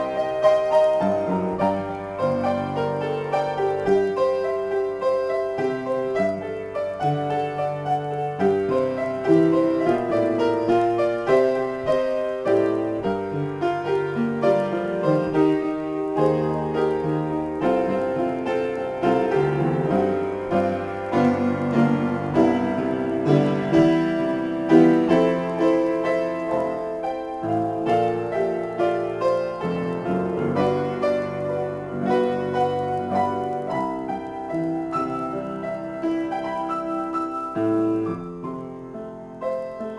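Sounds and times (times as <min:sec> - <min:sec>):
upright piano improvisation: 0:00.0 - 0:39.9.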